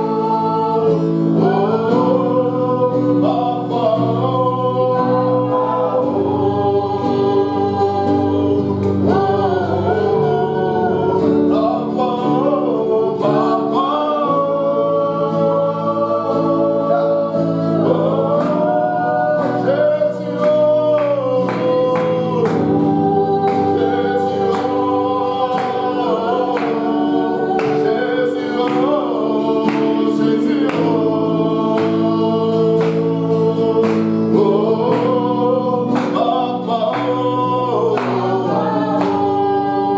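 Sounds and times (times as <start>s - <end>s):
voices singing slow melody: 0.0s - 39.9s.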